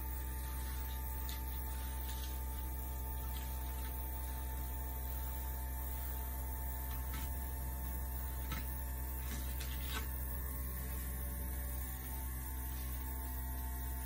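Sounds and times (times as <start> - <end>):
handheld air blower humming: 0.0 - 14.0.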